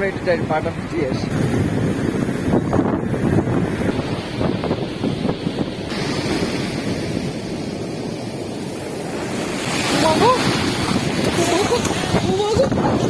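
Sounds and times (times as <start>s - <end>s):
sea waves breaking on beach: 0.0s - 13.0s
wind buffeting microphone: 0.0s - 13.0s.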